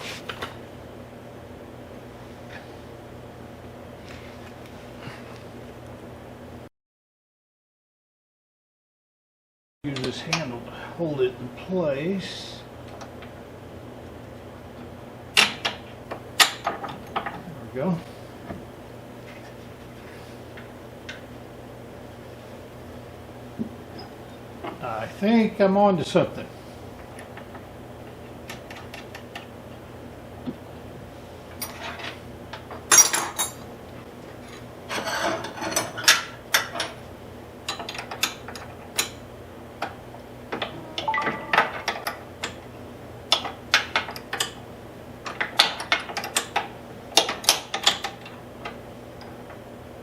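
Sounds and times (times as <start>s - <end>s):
low electrical hum: 0.0s - 6.7s, 9.8s - 50.0s.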